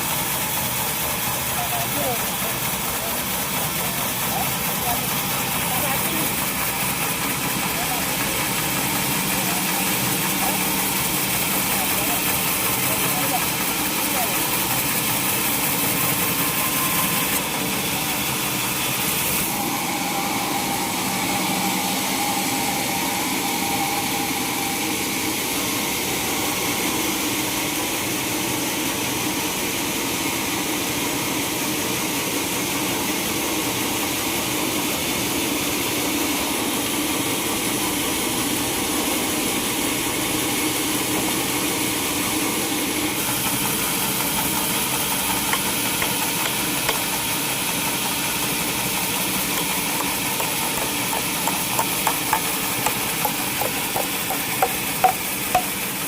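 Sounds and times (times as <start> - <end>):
sawmill saw droning: 0.0 - 29.2, 33.3 - 56.0.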